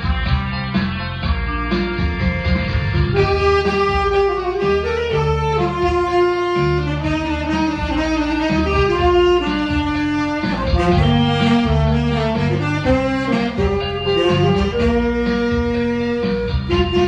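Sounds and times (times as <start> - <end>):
guitar: 0.0 - 17.0
pulsing bass line: 0.0 - 17.0
tenor saxophone melody: 3.1 - 17.0.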